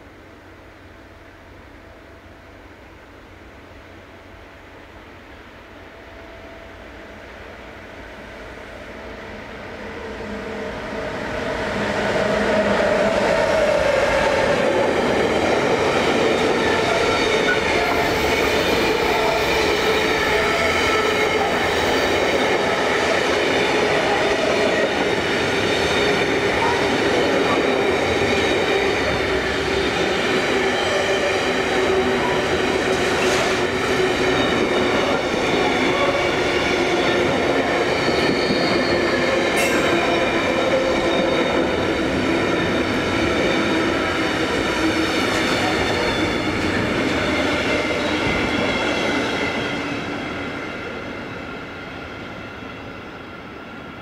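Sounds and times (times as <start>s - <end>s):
train wheels rumbling on rail: 6.5s - 54.0s.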